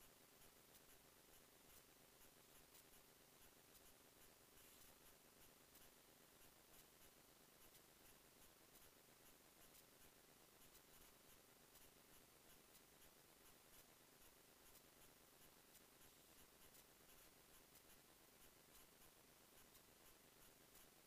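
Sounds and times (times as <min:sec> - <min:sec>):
faint steady hiss: 0:00.0 - 0:21.0
faint ticks: 0:00.0 - 0:21.0.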